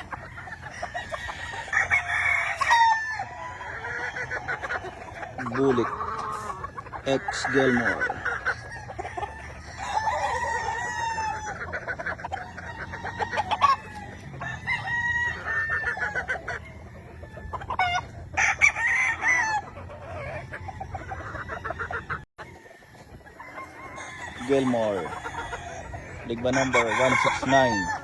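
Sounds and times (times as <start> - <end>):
chickens clucking: 0.0 - 28.0
roosters crowing: 0.0 - 28.0.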